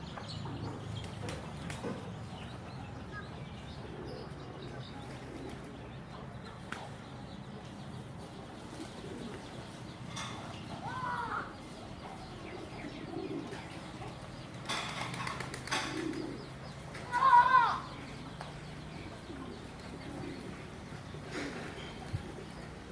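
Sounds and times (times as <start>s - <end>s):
pigeons cooing: 0.0s - 22.9s.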